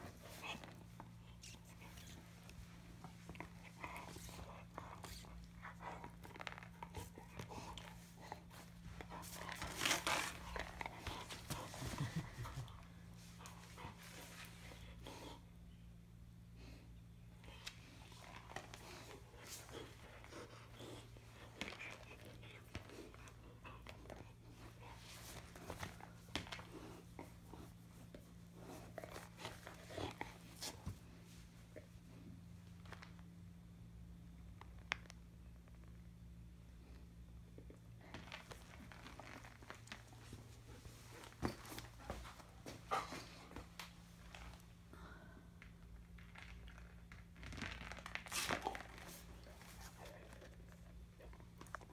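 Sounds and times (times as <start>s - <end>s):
dog gnawing a toy ball: 0.0s - 15.7s, 17.5s - 33.4s, 34.1s - 44.7s, 45.6s - 51.9s
steady low hum: 0.0s - 51.9s.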